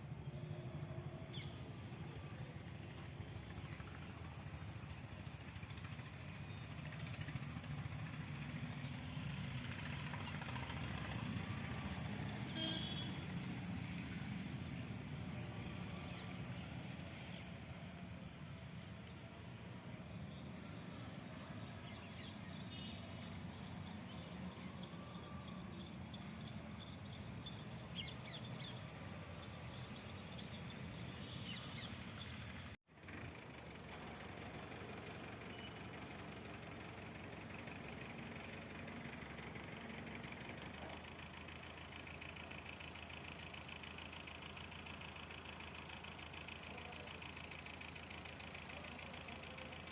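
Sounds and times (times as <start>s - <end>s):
tractor engine low rumble: 0.0s - 49.9s.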